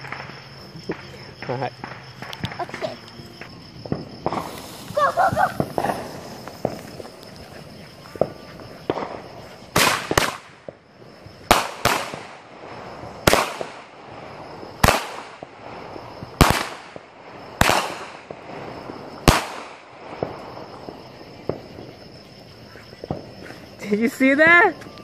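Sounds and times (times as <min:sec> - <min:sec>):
firework bangs: 0:00.0 - 0:22.4, 0:23.0 - 0:24.6.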